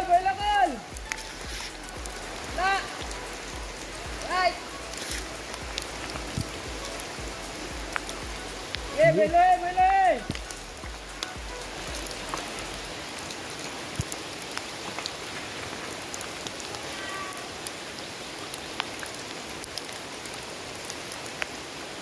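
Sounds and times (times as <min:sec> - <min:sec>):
raindrops ticking: 0:00.0 - 0:21.8
steady rain hiss: 0:00.0 - 0:22.0.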